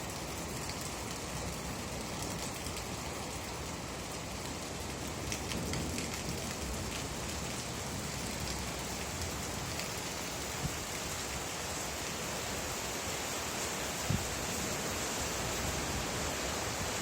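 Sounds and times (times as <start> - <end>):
rain on hard surfaces: 0.0 - 17.0.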